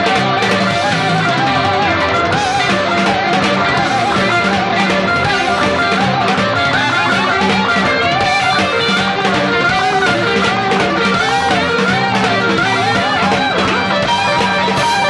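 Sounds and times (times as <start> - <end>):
electric guitar solo: 0.0 - 15.0
live rock band playing: 0.0 - 15.0
strummed rhythm guitar: 0.0 - 15.0.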